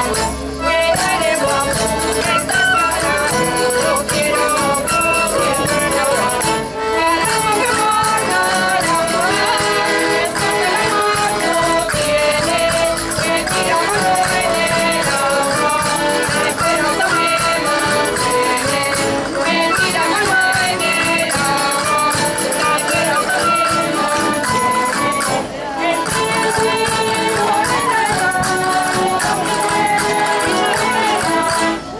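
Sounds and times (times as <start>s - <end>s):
accordion: 0.0s - 31.9s
plucked strings: 0.0s - 31.9s
rattling hand percussion: 0.0s - 31.9s
women's chorus singing: 0.0s - 31.9s
wooden flute: 0.0s - 31.9s.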